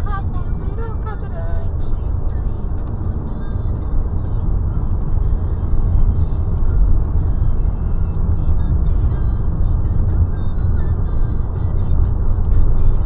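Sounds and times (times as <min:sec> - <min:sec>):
car road rumble from inside: 0:00.0 - 0:13.0.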